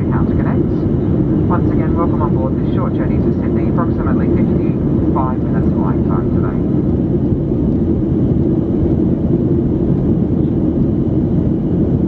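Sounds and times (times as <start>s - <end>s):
airplane cabin engine rush: 0.0s - 12.0s.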